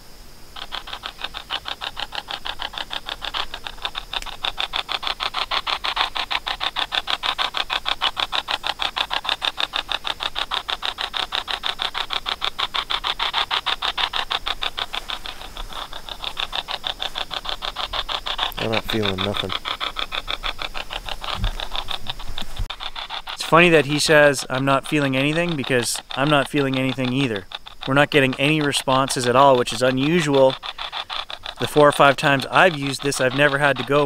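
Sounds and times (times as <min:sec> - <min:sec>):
chopping static pulses: 0:00.0 - 0:34.0.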